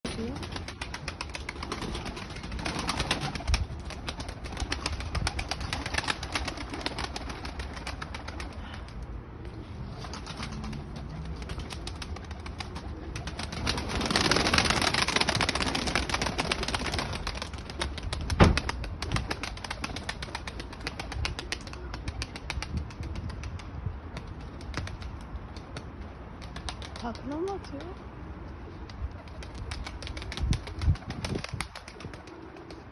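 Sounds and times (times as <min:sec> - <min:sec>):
pigeon wings flapping: 0:00.1 - 0:09.0, 0:09.9 - 0:28.0, 0:28.9 - 0:32.9.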